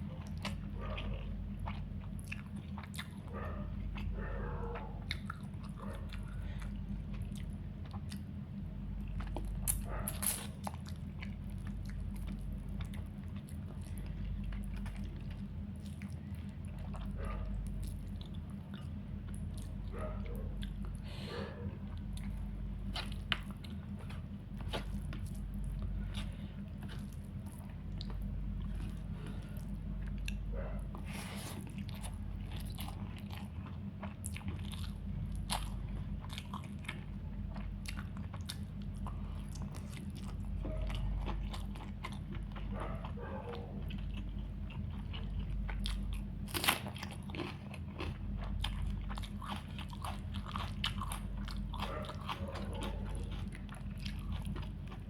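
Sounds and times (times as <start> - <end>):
crunchy bites and chewing: 0.0 - 55.0
steady low hum: 0.0 - 55.0.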